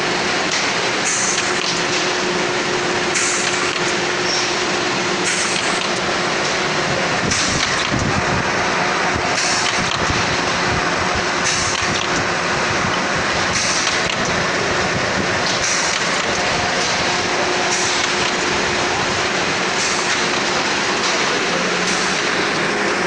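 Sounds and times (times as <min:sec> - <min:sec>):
processing machine running: 0:00.0 - 0:23.0.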